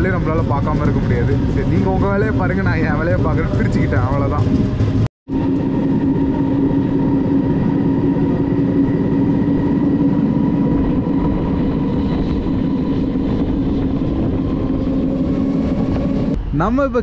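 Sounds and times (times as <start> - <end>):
train engine drone: 0.0 - 17.0
train rumble: 0.0 - 17.0.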